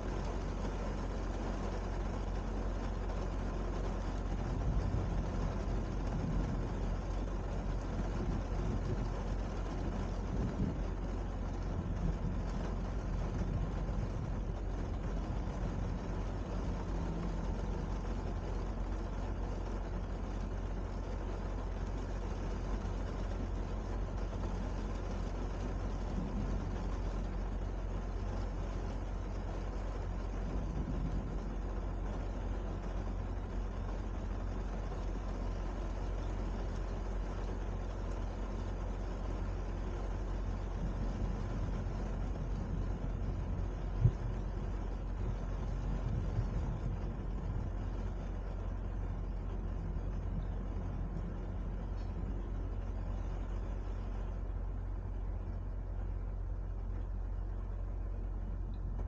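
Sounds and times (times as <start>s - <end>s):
low rumble: 0.0s - 59.0s
steady rain: 0.0s - 59.0s.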